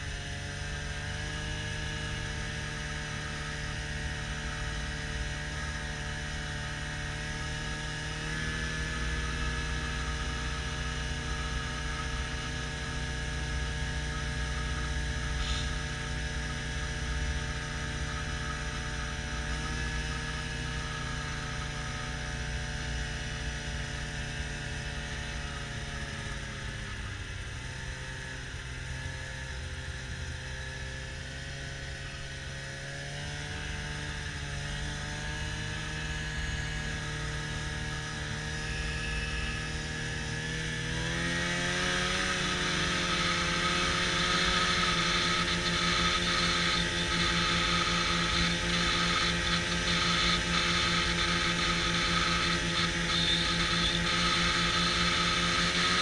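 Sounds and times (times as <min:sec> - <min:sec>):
snowmobile engine cruising: 0:00.0 - 0:56.0.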